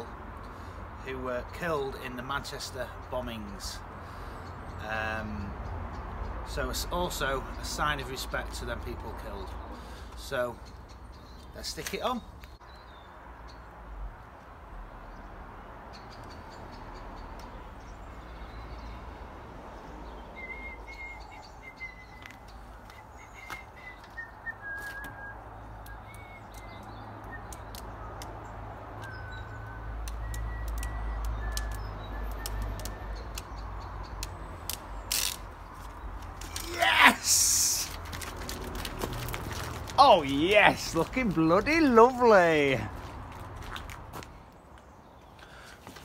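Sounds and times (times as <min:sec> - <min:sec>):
small birds chirping: 0:01.4 - 0:46.0.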